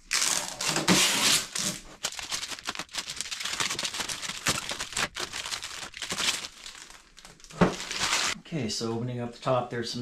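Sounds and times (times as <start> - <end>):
plastic wrap crinkling: 0.0 - 8.4
tape being peeled: 0.0 - 8.4.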